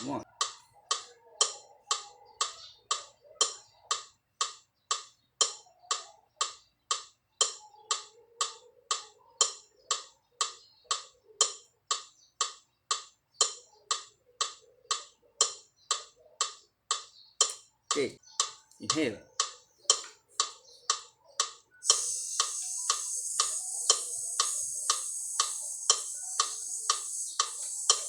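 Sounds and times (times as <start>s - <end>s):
metronome ticking: 0.0s - 28.0s.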